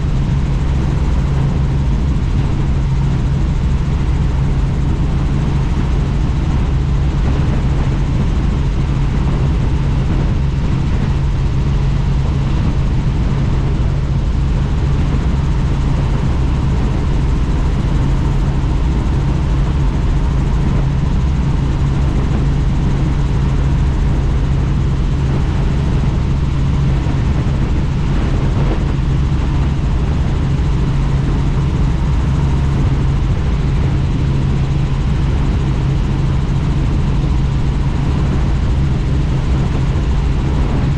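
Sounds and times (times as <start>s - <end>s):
helicopter engine and rotor noise: 0.0s - 40.9s.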